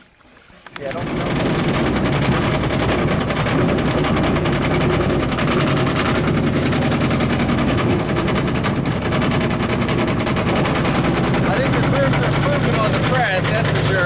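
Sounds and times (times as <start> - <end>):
grinder motor clattering: 0.8 - 14.0.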